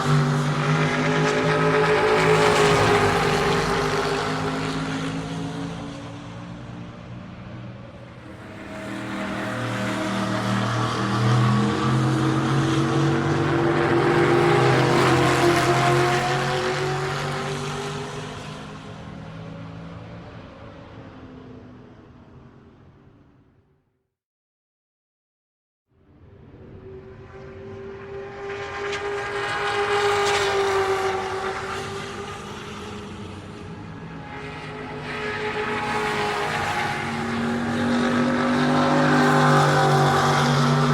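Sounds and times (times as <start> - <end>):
race car engine at speed: 0.0 - 23.3, 26.1 - 40.9.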